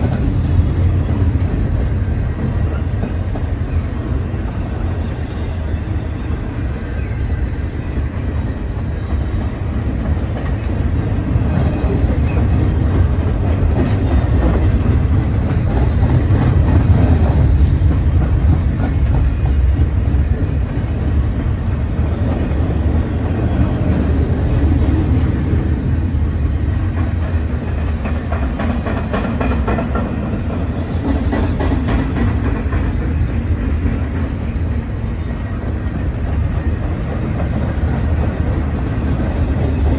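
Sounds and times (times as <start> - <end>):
wind buffeting microphone: 0.0 - 39.9
train wheels clicking over rail joints: 6.4 - 39.9.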